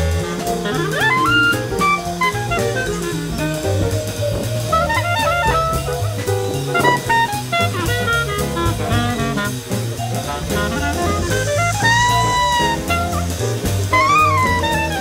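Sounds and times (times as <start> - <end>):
horn melody: 0.0 - 15.0
jazz drums: 0.0 - 15.0
walking bass line: 0.0 - 15.0.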